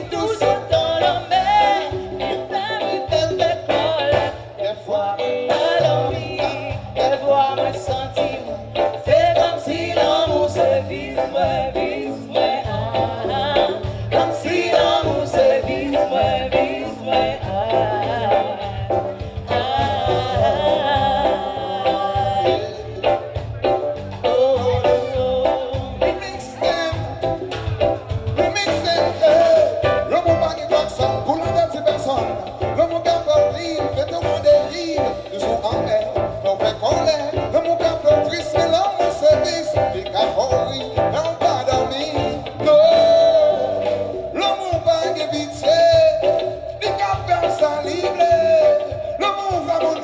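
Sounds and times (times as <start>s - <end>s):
live band music: 0.0s - 50.0s
person singing: 0.0s - 50.0s.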